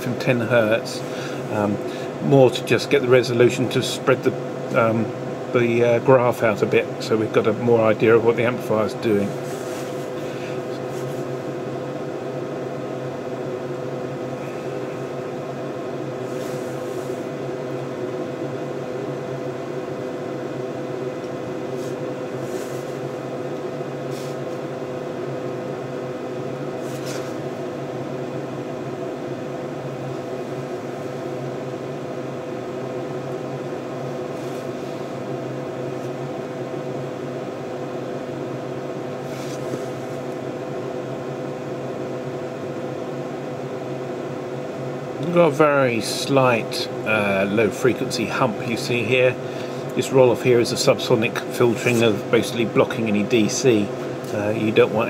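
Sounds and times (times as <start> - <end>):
cooling fans whirring: 0.0 - 55.0
mains hum: 0.0 - 55.0.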